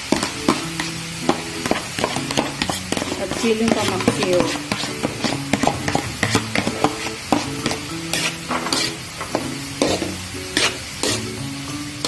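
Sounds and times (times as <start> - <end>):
spatula scraping pan: 0.0 - 11.7
vegetables sizzling in a wok: 0.0 - 12.0.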